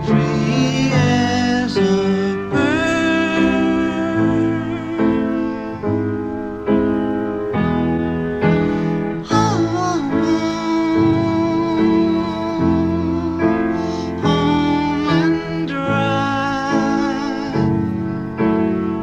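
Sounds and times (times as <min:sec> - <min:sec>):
person singing: 0:00.0 - 0:19.0
piano chords: 0:00.0 - 0:19.0.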